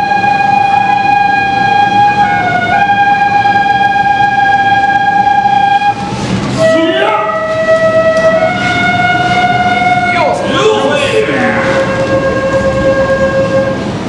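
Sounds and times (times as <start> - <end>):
bamboo flute high note: 0.0 - 14.0
dense noisy music backing: 0.0 - 14.0.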